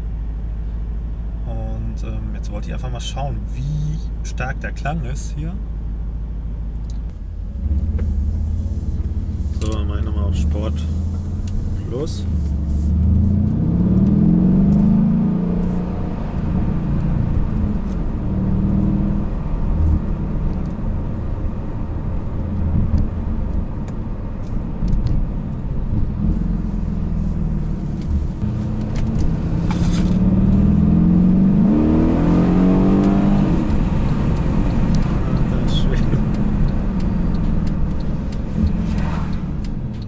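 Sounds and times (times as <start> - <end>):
car engine accelerating: 6.7 - 40.0.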